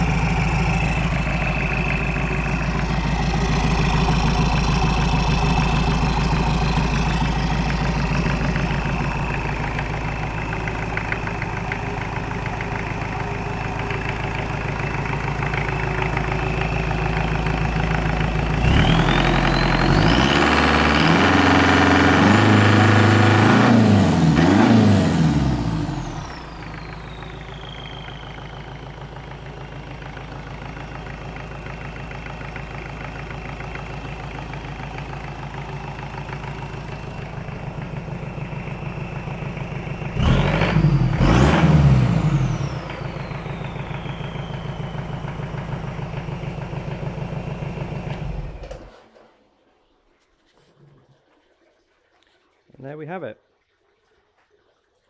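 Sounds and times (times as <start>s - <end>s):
turbo whine: 0.0s - 24.6s, 25.4s - 48.9s
marine diesel engine revving: 0.0s - 48.8s.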